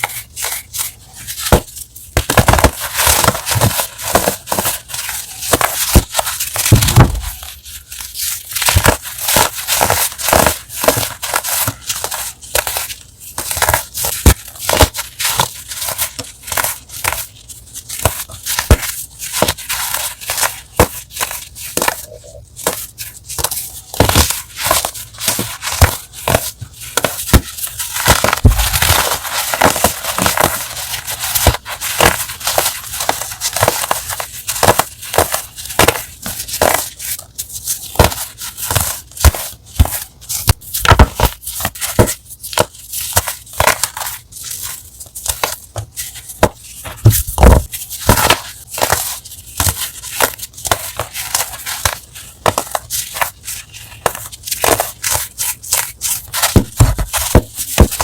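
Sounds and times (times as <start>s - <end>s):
chalk blocks crunching: 0.0s - 58.0s.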